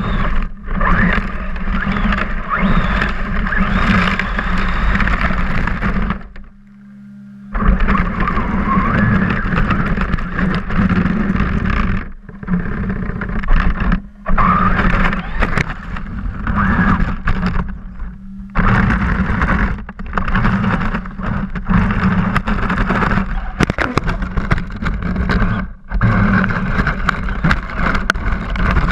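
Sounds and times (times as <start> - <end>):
small vehicle motor running hard: 0.0 - 28.9.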